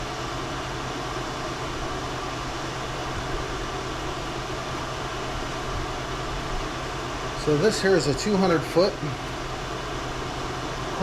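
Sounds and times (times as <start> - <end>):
machine humming and hissing: 0.0 - 11.0.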